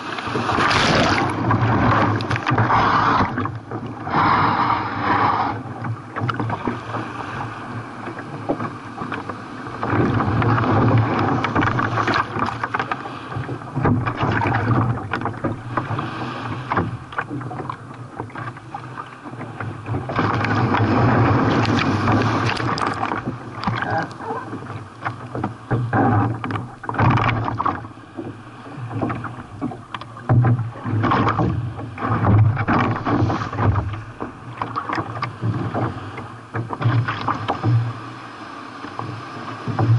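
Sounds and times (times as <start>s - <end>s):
sea water rushing and splashing: 0.0s - 39.9s.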